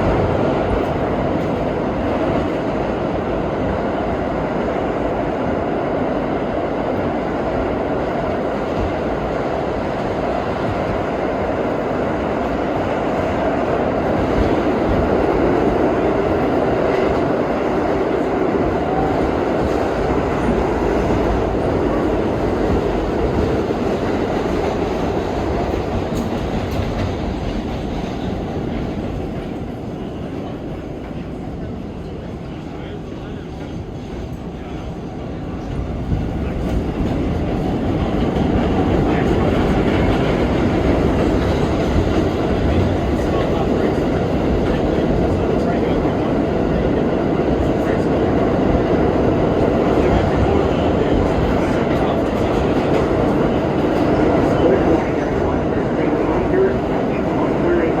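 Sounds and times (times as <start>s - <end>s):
subway train wheels rumbling on rail: 0.0s - 58.0s.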